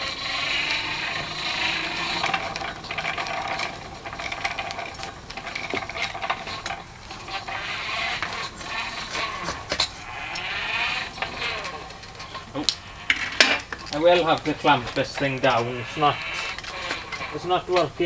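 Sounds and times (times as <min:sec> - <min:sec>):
forge blower whirring: 0:00.0 - 0:18.0
gears clicking and rattling: 0:00.0 - 0:18.0.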